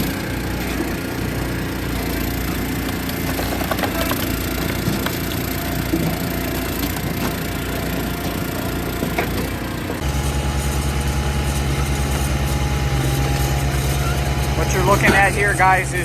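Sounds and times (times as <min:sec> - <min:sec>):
diesel engine running: 0:00.0 - 0:16.0
log splitter engine running: 0:00.0 - 0:16.0.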